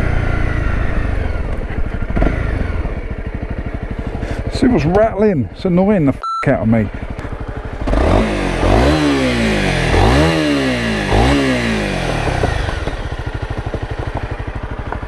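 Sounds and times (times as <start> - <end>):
motorcycle engine revving: 0.0 - 5.9, 6.9 - 15.0.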